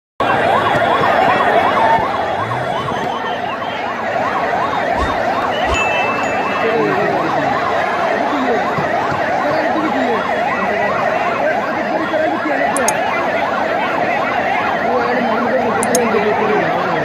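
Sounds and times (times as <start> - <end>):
large crowd noise: 0.2 - 17.0
sirens wailing: 0.2 - 17.0.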